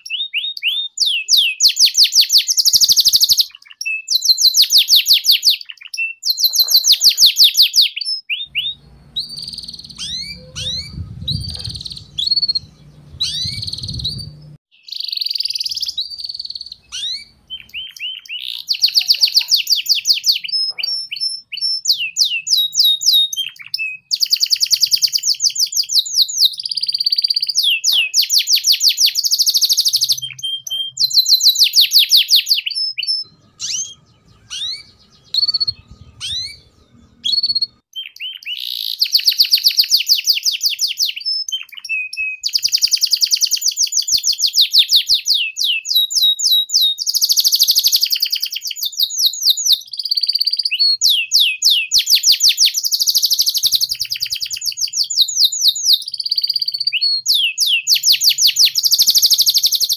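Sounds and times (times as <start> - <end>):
canary chirps: 0.0 - 59.9
canary trilling: 0.0 - 59.9.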